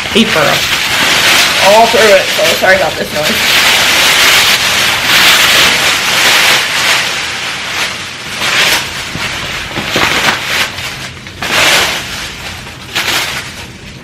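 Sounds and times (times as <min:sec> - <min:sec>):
packing paper crinkling: 0:00.0 - 0:14.0.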